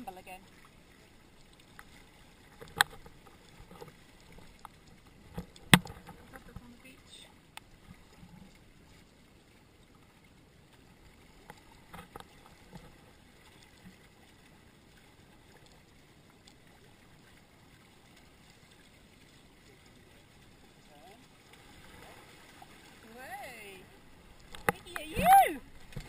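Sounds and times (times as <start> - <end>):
water washing against hulls: 0.0 - 26.0.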